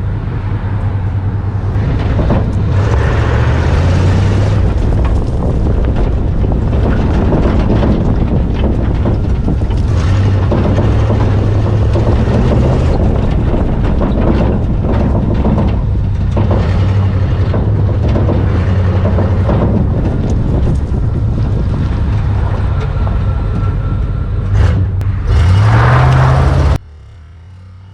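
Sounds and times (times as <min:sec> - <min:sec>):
wind on microphone: 0:00.0 - 0:26.8
truck engine under load: 0:00.0 - 0:27.9.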